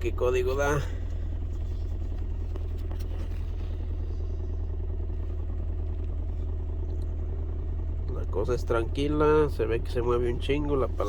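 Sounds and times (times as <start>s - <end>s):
misfiring car engine idling: 0.0s - 11.0s.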